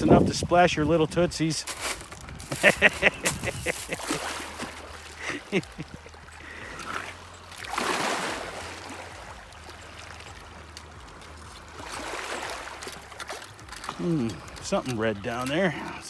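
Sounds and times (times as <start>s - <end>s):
waves washing on rocky beach: 0.0s - 16.0s.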